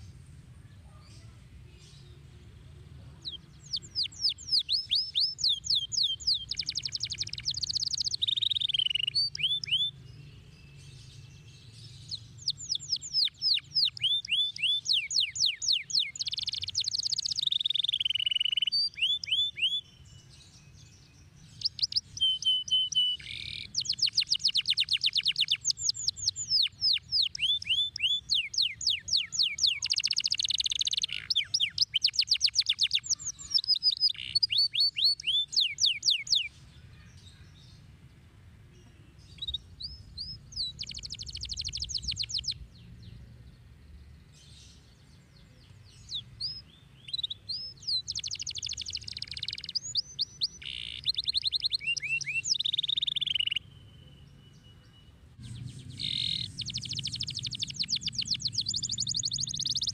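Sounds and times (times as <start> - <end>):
canary singing trills: 3.2 - 38.2, 38.8 - 59.9.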